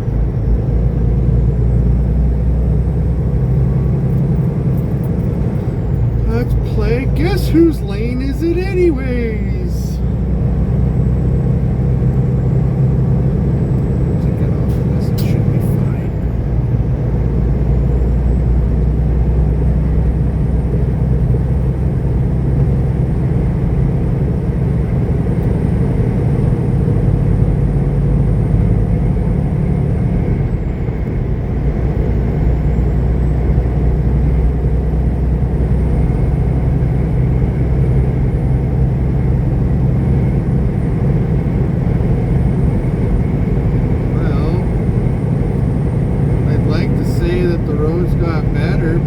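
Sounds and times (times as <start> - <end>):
diesel truck engine drone: 0.0 - 49.0
road noise: 0.0 - 49.0.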